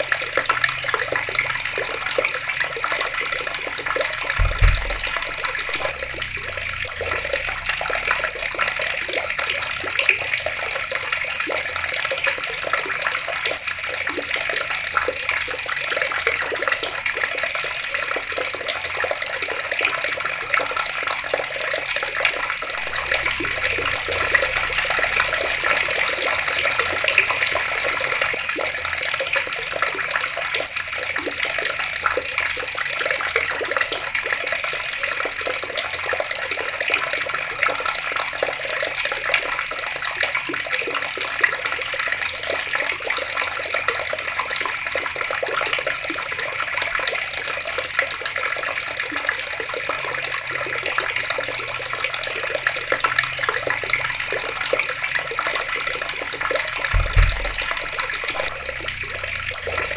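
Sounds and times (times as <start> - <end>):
water pouring from outdoor tap: 0.0 - 59.9.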